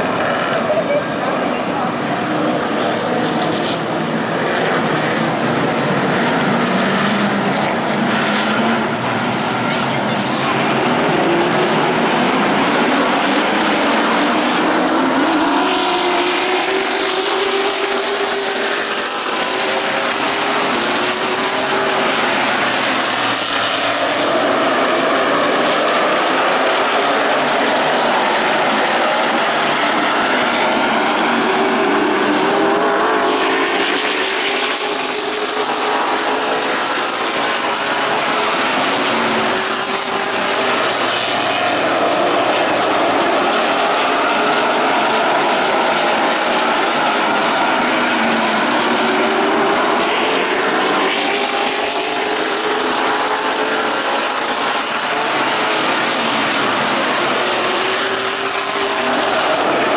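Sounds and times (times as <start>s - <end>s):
stock car engines racing: 0.0s - 59.9s.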